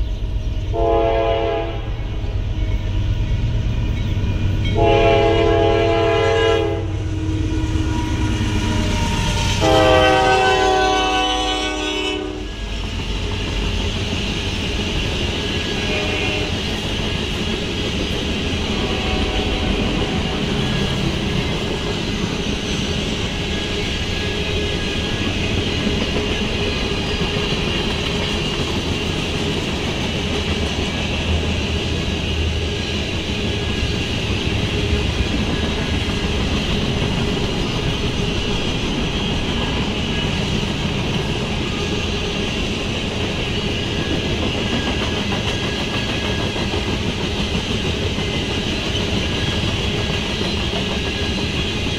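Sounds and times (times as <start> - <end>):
freight train cars rolling: 0.0 - 51.9.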